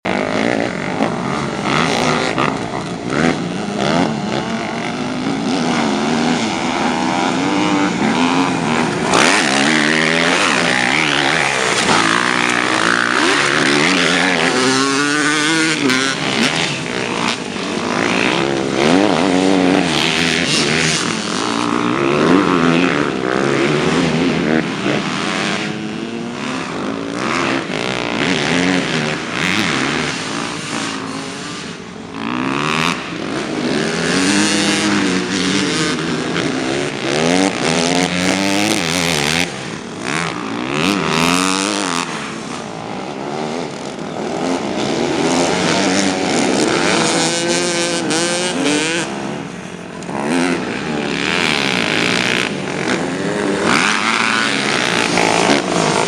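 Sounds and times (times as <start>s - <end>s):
motocross bikes revving: 0.0s - 56.0s.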